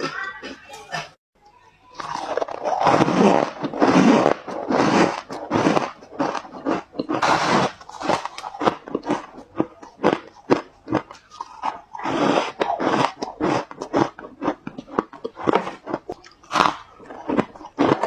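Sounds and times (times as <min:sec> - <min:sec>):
ice being crunched in mouth: 0:02.0 - 0:18.0.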